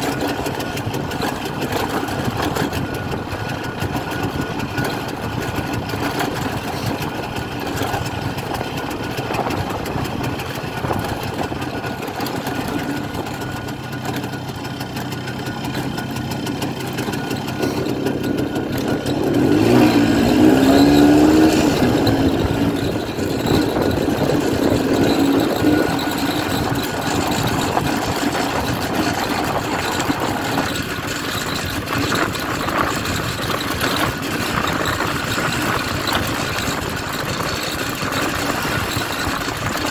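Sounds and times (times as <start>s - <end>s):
two-stroke engine running: 0.0s - 39.9s.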